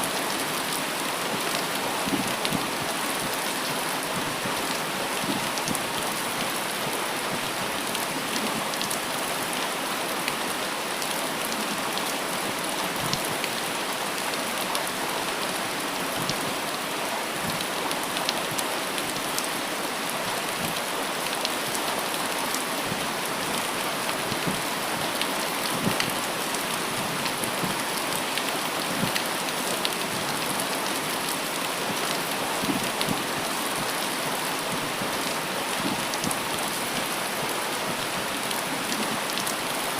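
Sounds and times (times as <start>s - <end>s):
rain drops ticking: 0.1s - 39.9s.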